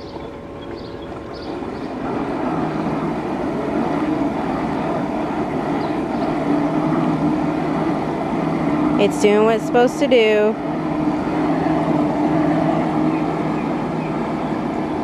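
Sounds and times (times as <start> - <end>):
pool cleaner pump humming: 0.0 - 15.0.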